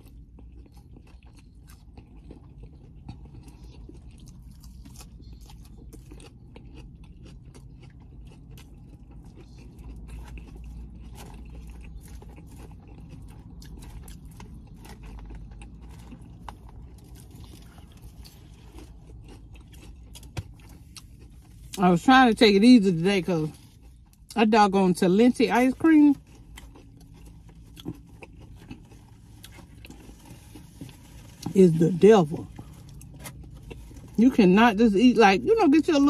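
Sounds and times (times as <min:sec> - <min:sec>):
low steady hum: 0:00.0 - 0:36.0
person chewing and crunching: 0:00.0 - 0:36.0.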